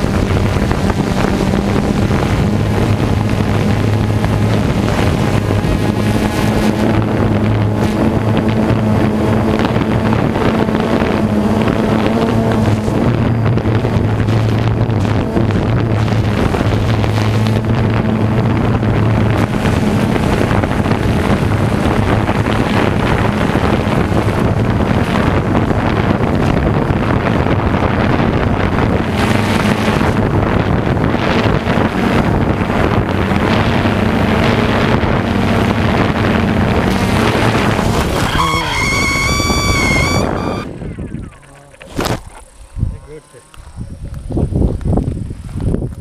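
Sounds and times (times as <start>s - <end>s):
high-pitched drone whine: 0.0s - 45.4s
drone propellers humming: 0.0s - 45.9s
heavy wind rush: 0.0s - 46.0s.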